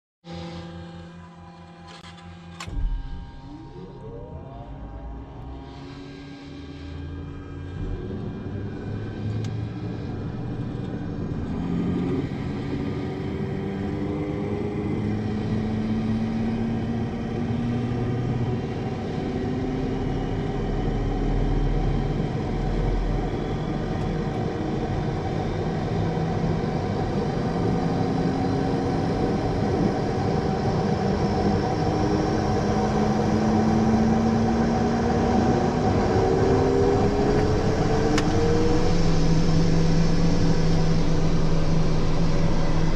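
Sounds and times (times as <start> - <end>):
turboprop engine starting up: 0.3 - 42.9.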